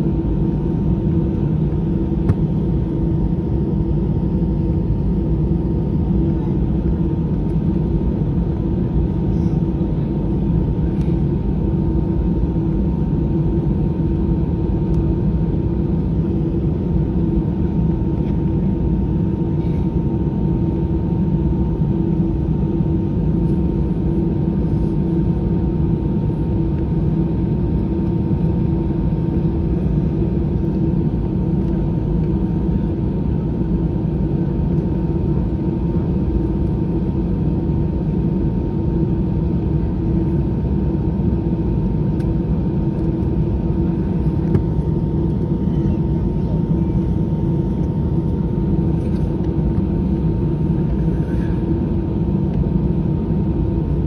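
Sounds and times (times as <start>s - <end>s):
airliner cabin rumble: 0.0s - 54.0s
steady hum: 0.0s - 54.0s.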